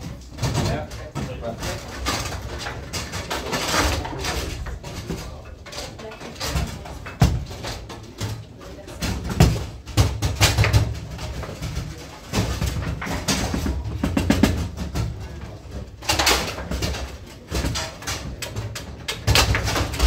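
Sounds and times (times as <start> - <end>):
distant foosball clacking: 0.0 - 20.0
foosball ball clacking: 0.0 - 20.0
foosball rods being worked: 0.0 - 20.0.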